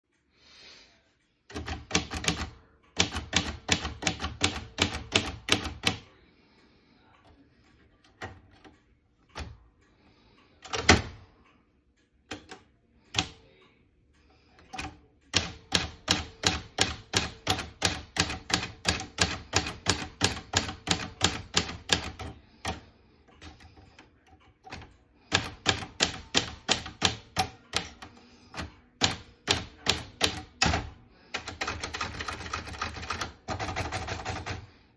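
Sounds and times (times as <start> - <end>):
manual typewriter keystrokes: 1.5 - 6.1, 8.0 - 9.6, 10.6 - 11.3, 12.3 - 13.5, 14.6 - 34.8.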